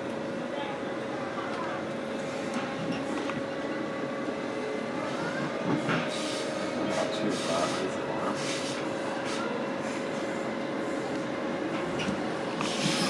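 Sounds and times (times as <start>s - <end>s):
constant train whine: 0.0s - 13.0s
train wheels rumbling on rails: 0.0s - 13.0s.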